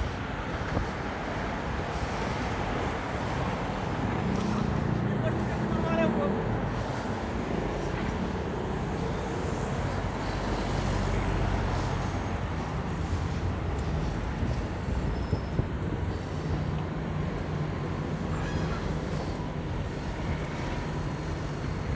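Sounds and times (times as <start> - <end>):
vehicle engines running: 0.0 - 21.9.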